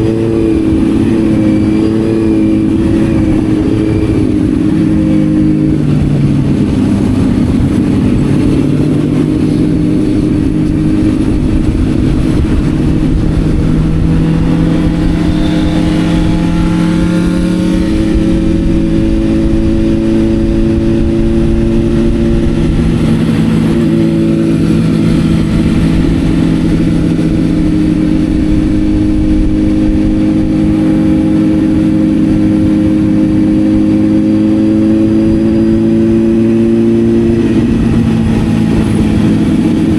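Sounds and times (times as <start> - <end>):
faint rising and falling engine tones: 0.0 - 39.9
motorcycle engine running: 0.0 - 39.9
wind rush on microphone: 0.0 - 39.9.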